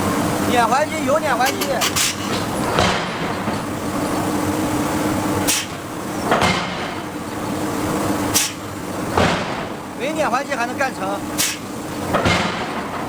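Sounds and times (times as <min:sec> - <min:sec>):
forging machinery humming: 0:00.0 - 0:13.0.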